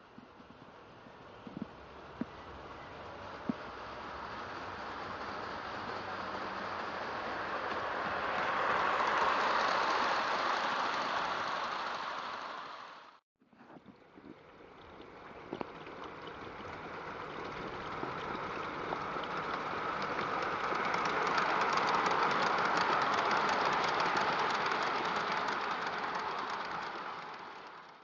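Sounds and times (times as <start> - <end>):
model train motors running: 0.0 - 13.2, 15.1 - 28.0
wheels clicking over rails: 0.0 - 13.2, 15.2 - 28.0.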